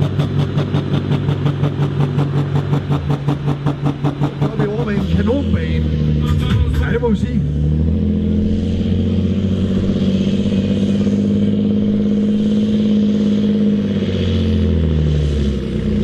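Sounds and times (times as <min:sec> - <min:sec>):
diesel tractor engine under load: 0:00.0 - 0:16.0.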